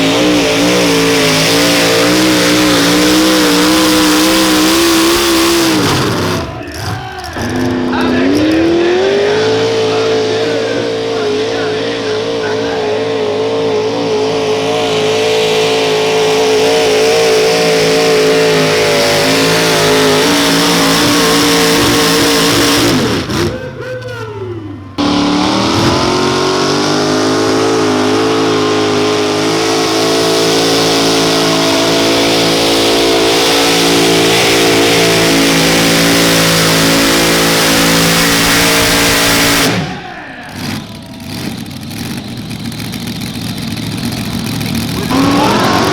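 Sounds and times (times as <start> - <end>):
tractor engine screaming at full throttle: 0.0 - 45.9.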